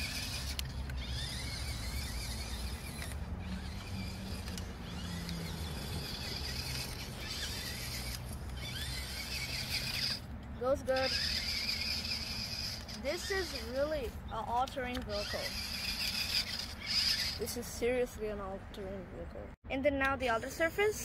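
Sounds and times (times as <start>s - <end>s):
toy car electric motor whining: 0.0s - 18.2s.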